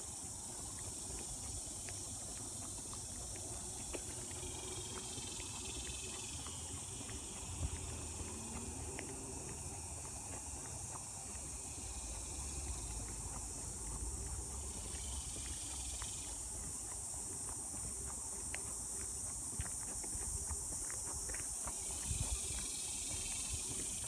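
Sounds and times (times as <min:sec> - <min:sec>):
footsteps on paved path: 0:00.0 - 0:24.0
insects droning: 0:00.0 - 0:24.0
lower insect call: 0:00.0 - 0:24.0.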